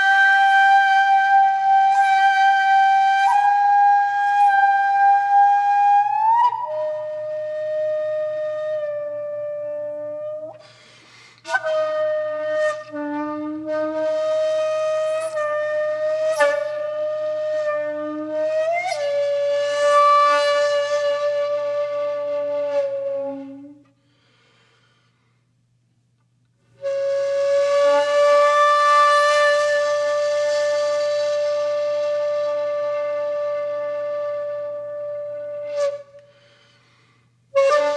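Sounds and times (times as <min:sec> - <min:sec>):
flute-like wind instrument music: 0:00.0 - 0:24.1, 0:26.8 - 0:36.8, 0:37.5 - 0:37.9.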